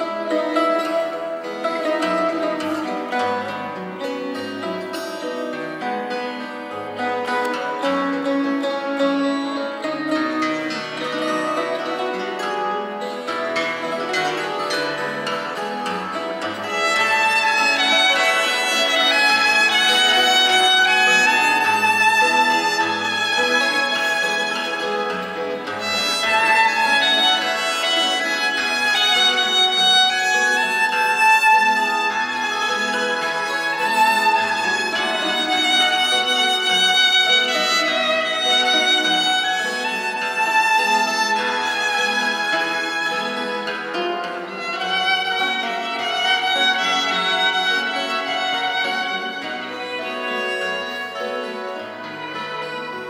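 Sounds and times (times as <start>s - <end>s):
guitars accompanying: 0.0s - 53.0s
violin melody: 0.0s - 53.0s.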